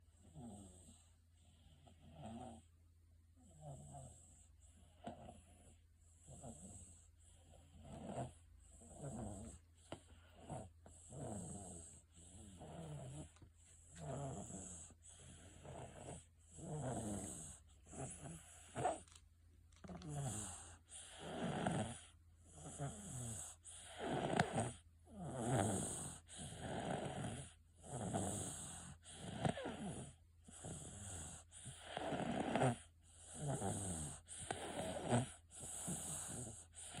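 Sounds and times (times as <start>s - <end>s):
toddler snoring: 0.1s - 2.7s, 3.4s - 19.2s, 19.8s - 37.0s.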